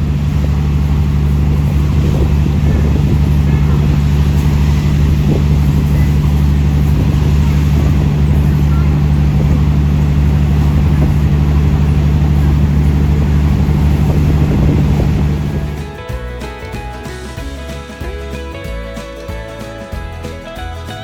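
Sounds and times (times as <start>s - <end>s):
train engine drone: 0.0s - 19.2s.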